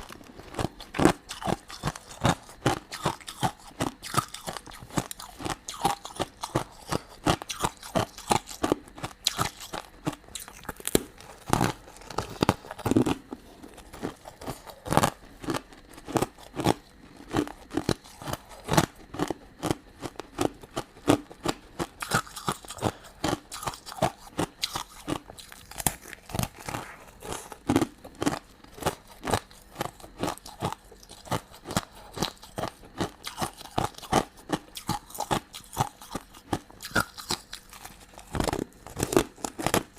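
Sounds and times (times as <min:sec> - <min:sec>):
chewing and crunching sweets: 0:00.0 - 0:39.9.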